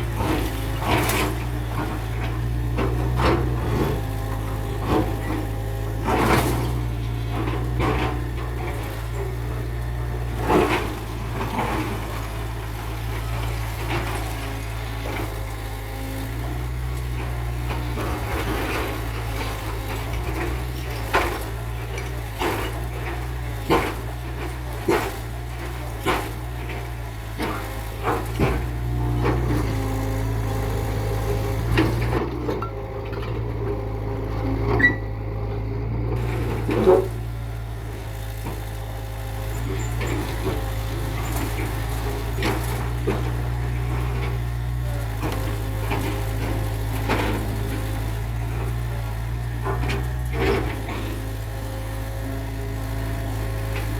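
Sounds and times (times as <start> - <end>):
heavy machinery engine drone: 0.0 - 53.9.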